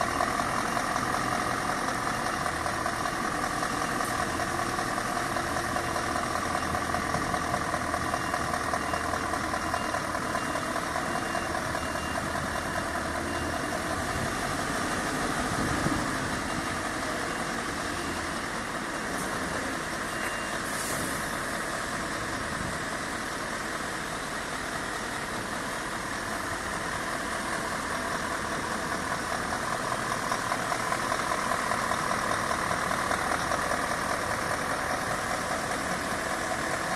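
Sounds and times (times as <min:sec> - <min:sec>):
diesel truck engine at low revs: 0:00.0 - 0:36.9.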